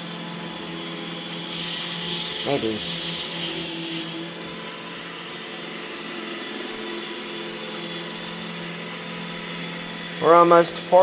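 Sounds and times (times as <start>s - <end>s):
robot vacuum motor hum: 0.0s - 11.0s.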